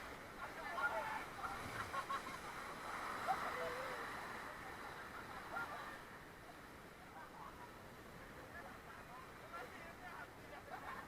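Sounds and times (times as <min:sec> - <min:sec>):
river water rushing: 0:00.0 - 0:10.6.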